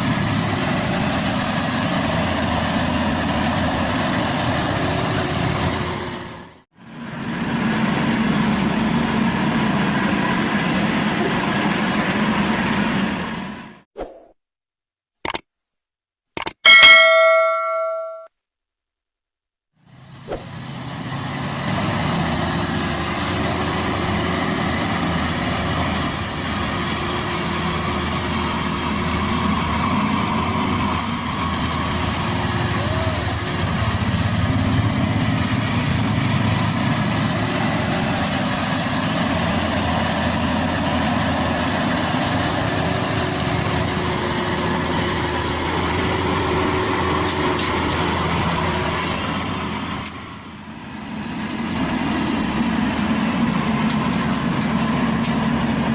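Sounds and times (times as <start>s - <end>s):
combine harvester engine running: 0.0s - 13.8s, 19.8s - 55.9s.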